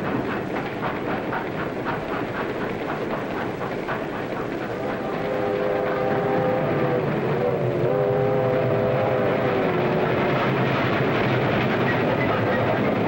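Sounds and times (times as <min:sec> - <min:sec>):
steam train rumbling and rattling: 0:00.0 - 0:13.0.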